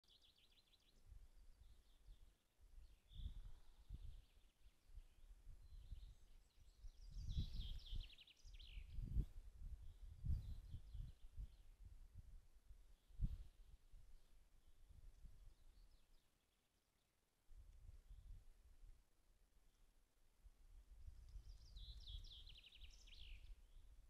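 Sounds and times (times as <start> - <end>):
songbird chirps and calls: 0.0 - 11.9, 12.8 - 17.2, 21.0 - 24.0.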